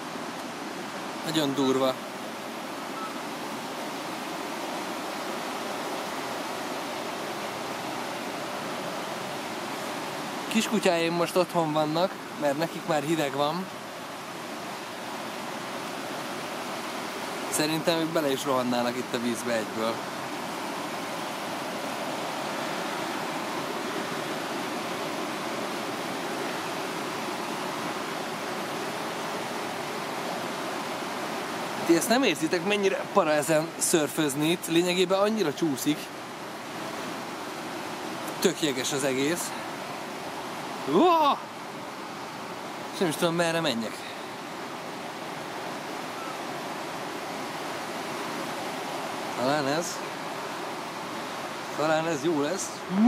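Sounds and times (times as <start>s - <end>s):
river rushing over rapids: 0.0s - 53.0s.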